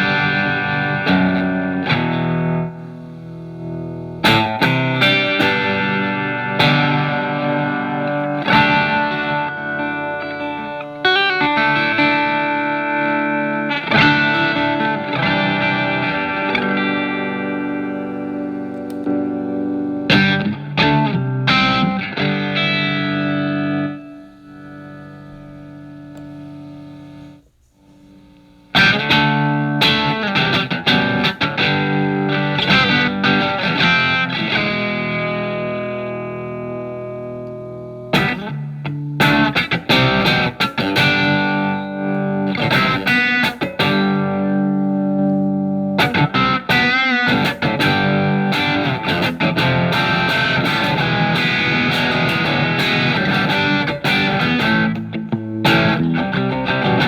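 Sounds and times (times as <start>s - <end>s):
distorted electric guitar chords: 0.0s - 27.4s, 28.6s - 57.0s.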